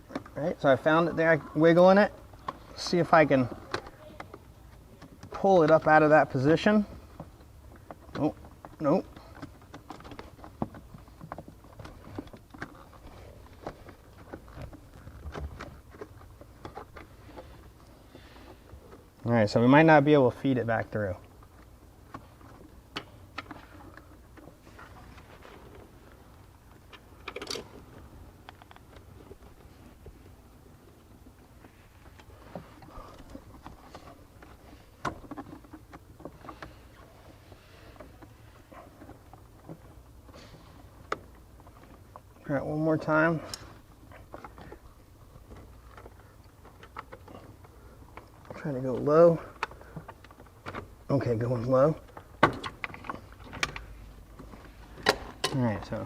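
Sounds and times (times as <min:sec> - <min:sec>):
cable clicking and rattling: 0:00.0 - 0:56.0.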